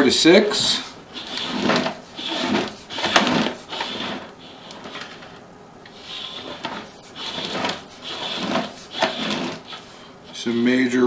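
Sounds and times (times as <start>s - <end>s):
cable rattling and scraping: 0.0s - 10.7s.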